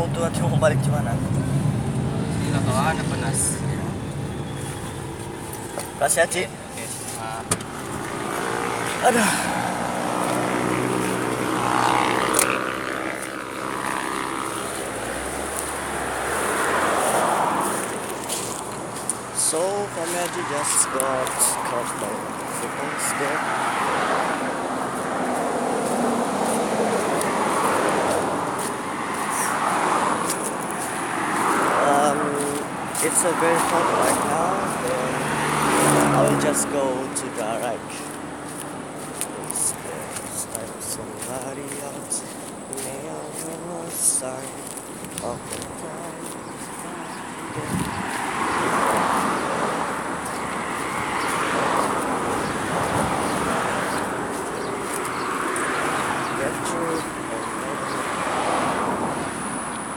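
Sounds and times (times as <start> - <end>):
road traffic rushing past: 0.0 - 59.9.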